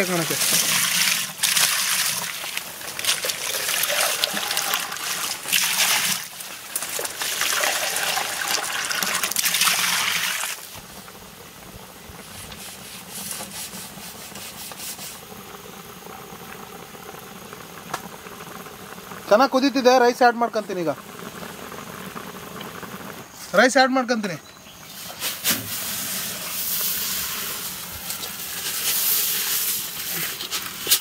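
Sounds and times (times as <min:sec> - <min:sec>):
water pouring into a pot: 0:00.0 - 0:23.4, 0:25.7 - 0:31.0
pot bubbling: 0:00.0 - 0:31.0.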